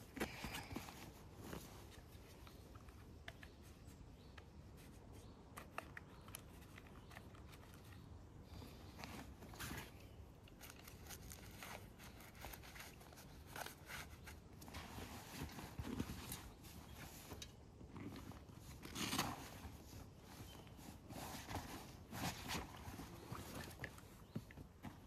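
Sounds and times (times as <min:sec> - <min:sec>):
clothing and gear rustling: 0:00.0 - 0:05.3, 0:06.2 - 0:25.0.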